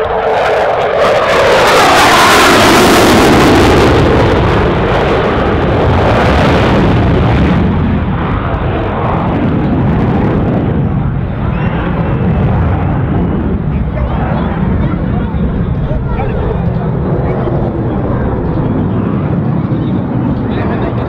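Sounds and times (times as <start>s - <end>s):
fighter jet engine passing: 0.0s - 21.0s.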